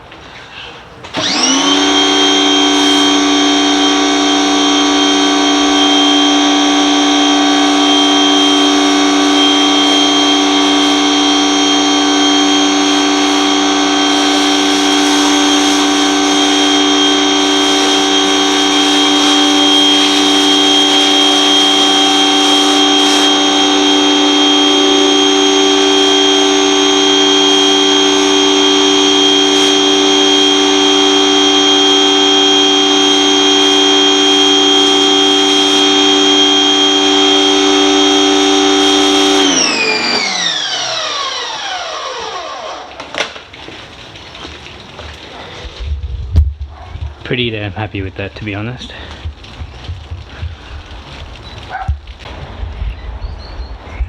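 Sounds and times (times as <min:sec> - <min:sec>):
electric pressure washer whine: 0:01.0 - 0:45.9, 0:47.0 - 0:52.5.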